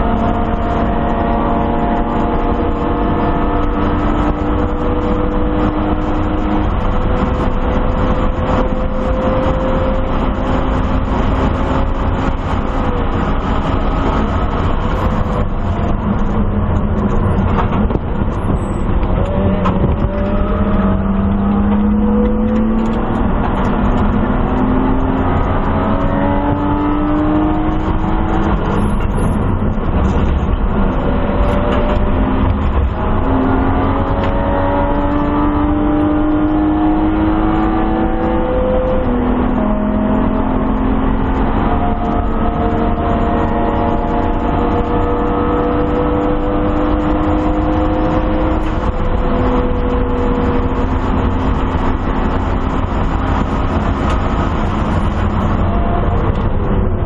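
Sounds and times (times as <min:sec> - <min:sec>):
racing car engine revving: 0:00.0 - 0:57.0
road and wind noise: 0:00.0 - 0:57.0.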